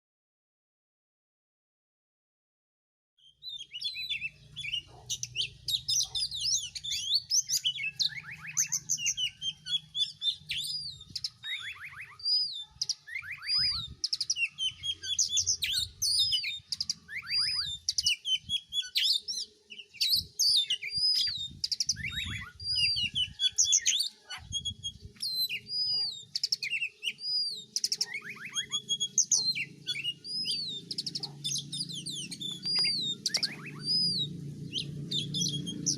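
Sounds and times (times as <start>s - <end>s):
songbird singing whistles and trills: 3.2s - 35.9s.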